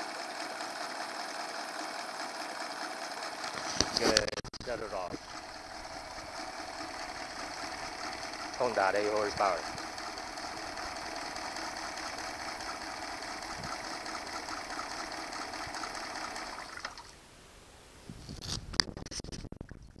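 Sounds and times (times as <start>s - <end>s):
outboard motor idling: 0.0s - 17.2s.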